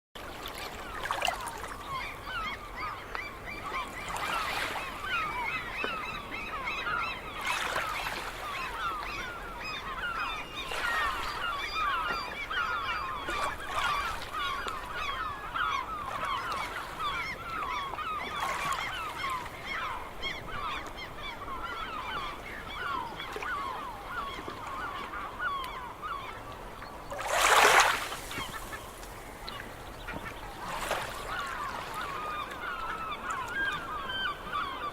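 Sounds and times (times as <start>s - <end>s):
gulls calling: 0.5s - 34.9s.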